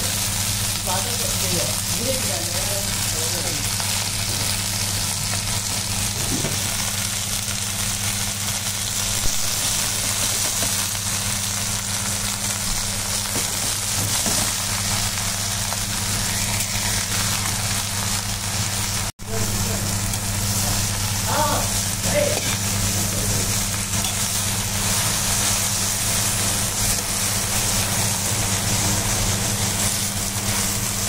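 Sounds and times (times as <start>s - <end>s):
leaves sizzling in a wok: 0.0s - 31.0s.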